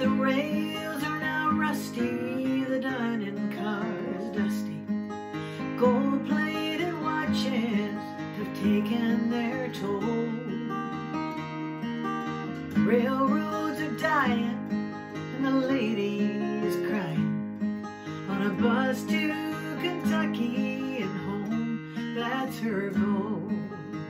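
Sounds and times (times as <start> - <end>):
woman singing: 0.0 - 11.1, 12.4 - 17.4, 18.0 - 24.0
acoustic guitar strumming: 0.0 - 24.0.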